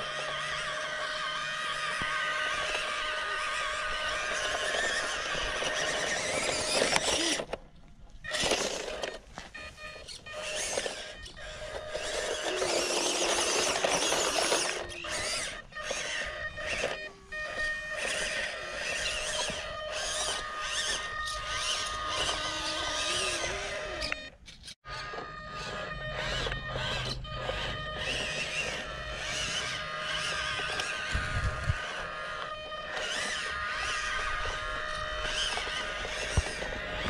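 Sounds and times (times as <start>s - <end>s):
rc car motor whining: 0.0s - 37.0s.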